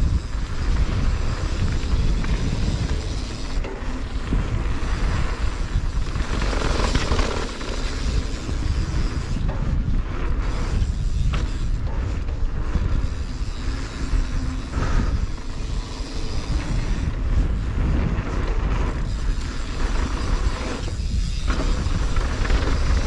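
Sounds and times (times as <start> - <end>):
bike tyres rolling and rattling: 0.0 - 23.0
wind rumble on microphone: 0.0 - 23.0.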